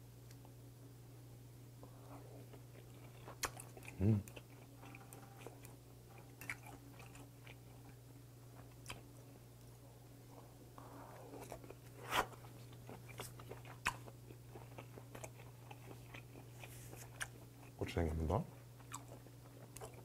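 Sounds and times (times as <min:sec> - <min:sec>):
steady low hum: 0:00.0 - 0:20.0
soft chewing with clicks: 0:00.2 - 0:00.6, 0:01.8 - 0:20.0.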